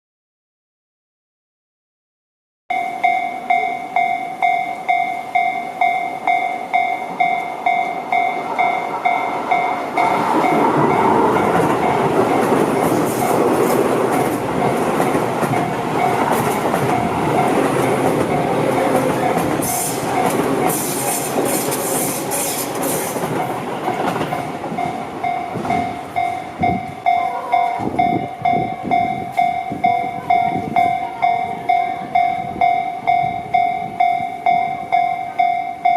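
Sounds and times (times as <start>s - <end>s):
level crossing warning bell: 2.7s - 35.9s
train passing with wheel noise: 2.7s - 35.9s.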